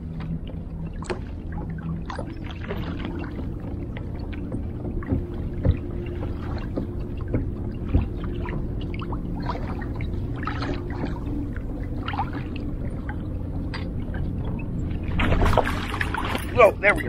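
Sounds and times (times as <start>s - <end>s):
steady low rumble: 0.0s - 17.0s
water sloshing and gurgling: 0.0s - 17.0s.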